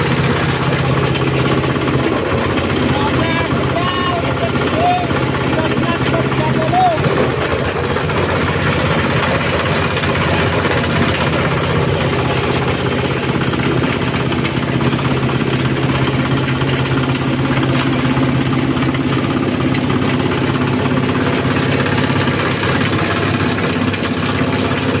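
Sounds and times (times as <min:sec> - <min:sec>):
chopping machine running steadily: 0:00.0 - 0:25.0.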